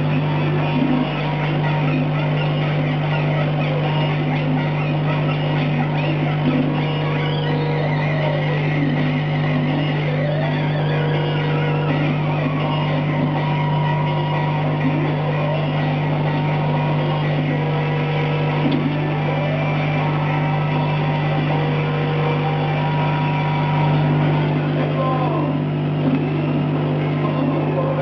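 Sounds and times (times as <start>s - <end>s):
low machine hum: 0.0s - 28.0s
stepper motors whining: 0.0s - 28.0s.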